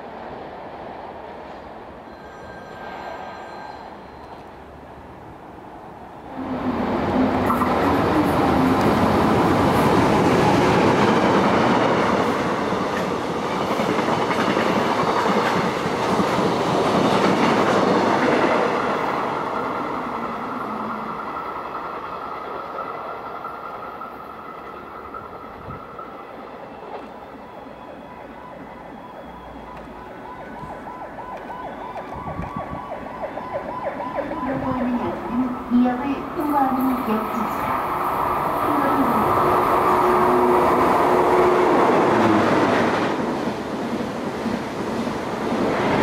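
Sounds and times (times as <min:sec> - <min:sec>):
train passing at speed: 0:00.0 - 0:46.0.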